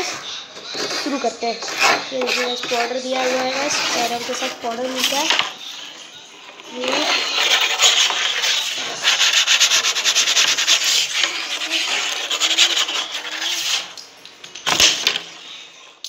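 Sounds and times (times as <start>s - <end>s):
hand scrubbing powder on board: 0.0s - 5.9s, 6.5s - 14.0s.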